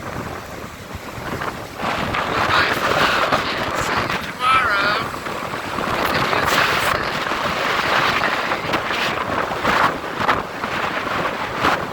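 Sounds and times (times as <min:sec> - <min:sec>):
storm wind buffeting microphone: 0:00.0 - 0:11.9
surf on the beach: 0:00.0 - 0:11.9.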